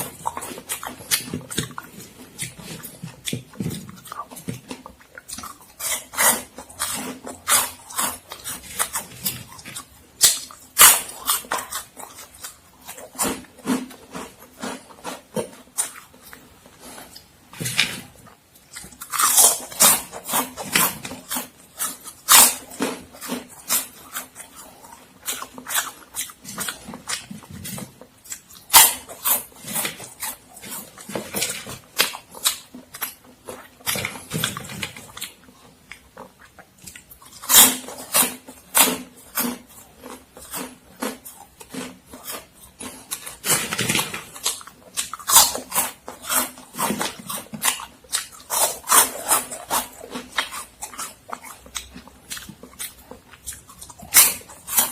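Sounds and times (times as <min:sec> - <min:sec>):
crunchy snack chewing: 0:00.0 - 0:54.9.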